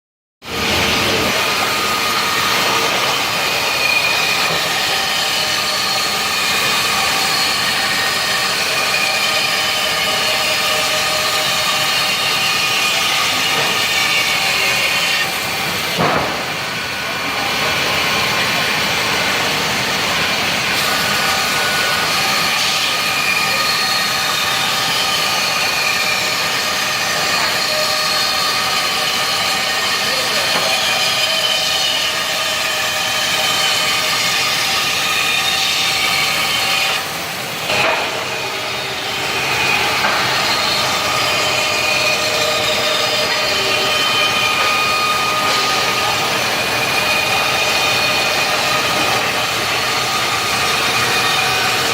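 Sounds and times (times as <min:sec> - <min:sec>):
band saw cutting wood: 0:00.5 - 0:51.9.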